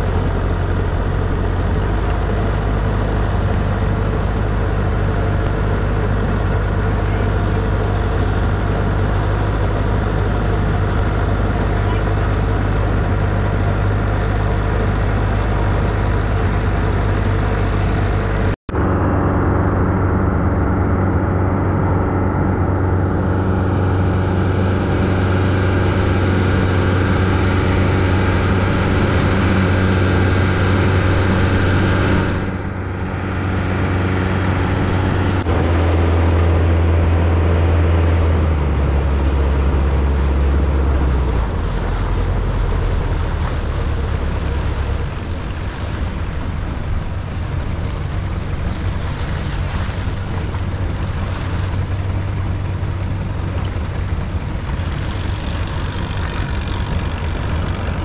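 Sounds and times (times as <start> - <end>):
boat engine running: 0.0 - 58.0
water rushing past hull: 0.0 - 58.0.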